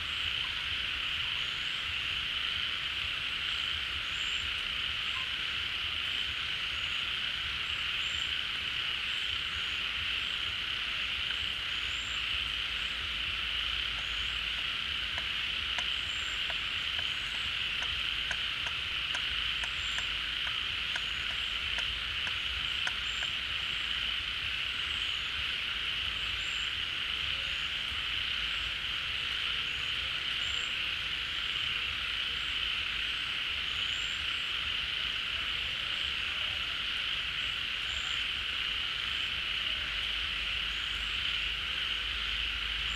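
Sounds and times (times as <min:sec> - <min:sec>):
frog chorus: 0:00.0 - 0:42.9.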